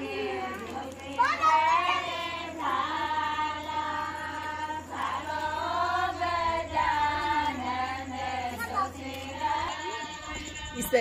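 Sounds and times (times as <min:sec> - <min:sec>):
women singing folk song: 0:00.0 - 0:11.0.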